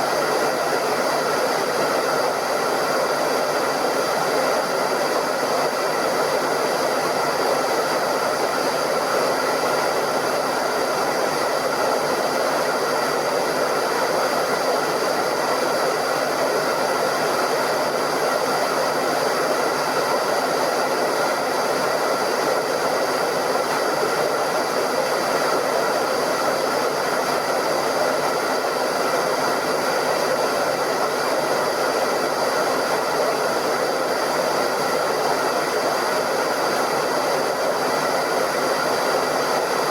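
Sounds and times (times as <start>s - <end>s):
hairdryer blowing: 0.0s - 39.9s.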